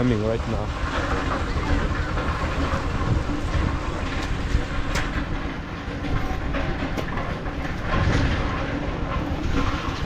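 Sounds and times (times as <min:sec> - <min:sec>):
rain falling: 0:00.0 - 0:10.0
low rumble: 0:00.1 - 0:10.0.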